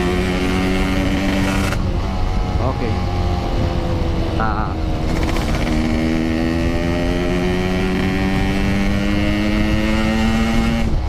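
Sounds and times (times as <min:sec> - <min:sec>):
motorcycle engine accelerating: 0:00.0 - 0:11.0
wind rumble on microphone: 0:00.0 - 0:11.0.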